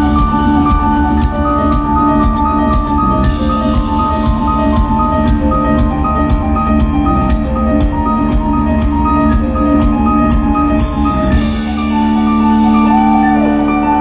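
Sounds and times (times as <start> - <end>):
drum kit beating: 0.0 - 13.2
arpeggiated keyboard notes: 0.0 - 14.0
sustained low bass: 0.0 - 14.0.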